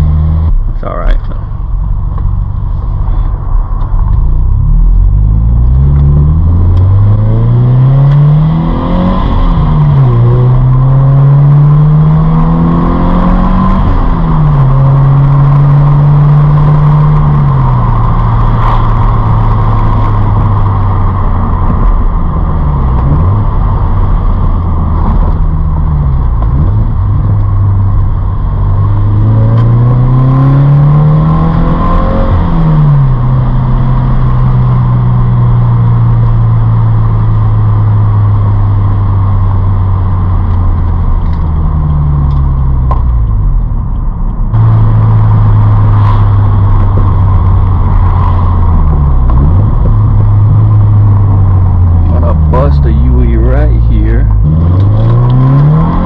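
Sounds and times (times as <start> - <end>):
car engine revving while driving: 0.0 - 0.6, 2.0 - 56.0.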